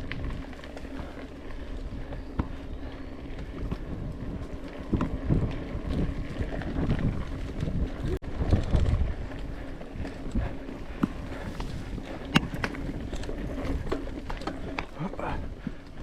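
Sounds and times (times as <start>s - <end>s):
bike rumble on trail: 0.0s - 16.0s
wind buffeting microphone: 0.0s - 16.0s.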